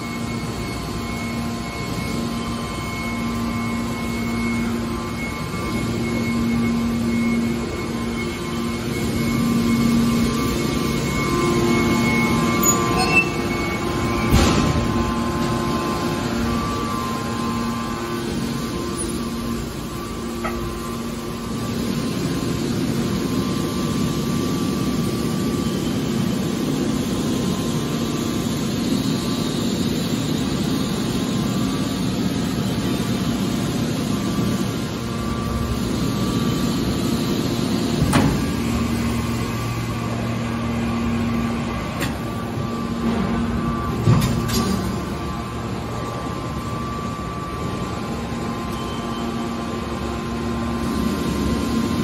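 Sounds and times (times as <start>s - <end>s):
baler mechanical hum: 0.0s - 52.0s.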